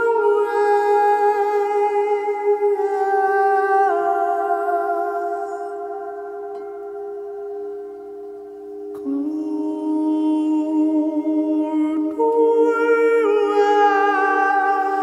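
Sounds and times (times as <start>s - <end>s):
person humming long notes: 0.0s - 15.0s
singing bowl ringing tone: 0.0s - 15.0s.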